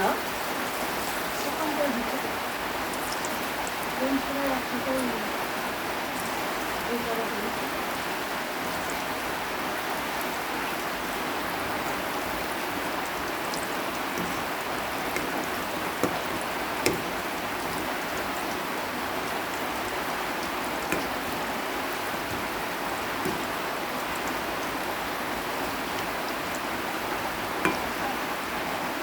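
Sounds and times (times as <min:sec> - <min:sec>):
fries sizzling in oil: 0:00.0 - 0:29.0.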